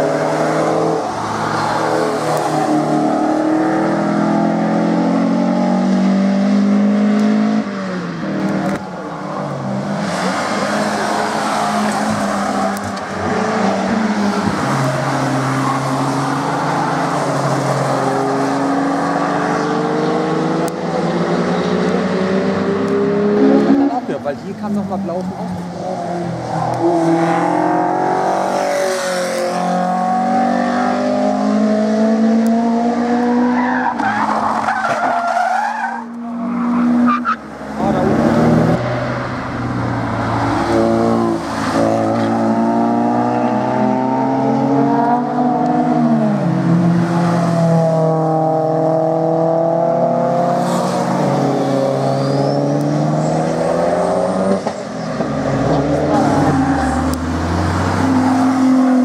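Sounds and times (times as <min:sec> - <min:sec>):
sports cars revving past: 0:00.0 - 0:59.0.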